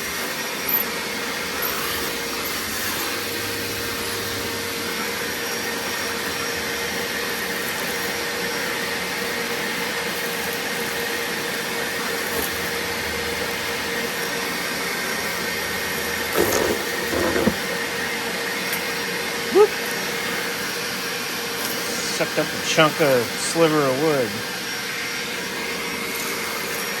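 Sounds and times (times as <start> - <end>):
shop vacuum running: 0.0 - 27.0.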